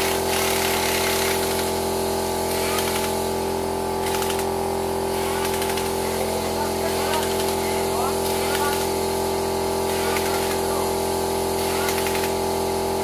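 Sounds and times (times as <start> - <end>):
air blow gun hissing: 0.0 - 13.0
steady machine hum: 0.0 - 13.0.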